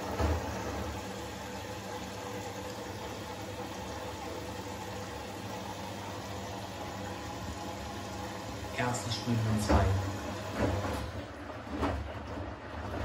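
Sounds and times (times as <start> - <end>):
water rushing in washing machine: 0.0 - 13.0.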